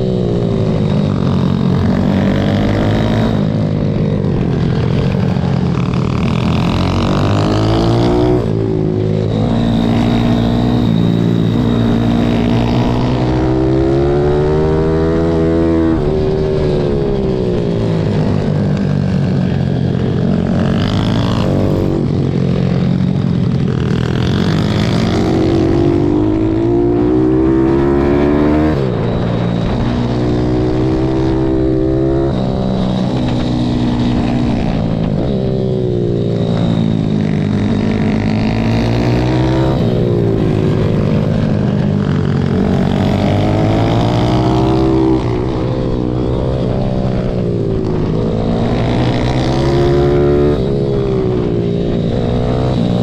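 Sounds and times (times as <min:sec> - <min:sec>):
motorbike engine revving: 0:00.0 - 0:53.0
wind buffeting microphone: 0:00.0 - 0:53.0.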